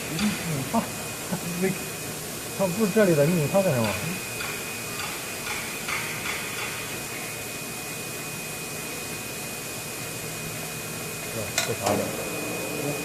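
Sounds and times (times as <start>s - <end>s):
high-pitched machine whine: 0.0s - 13.0s.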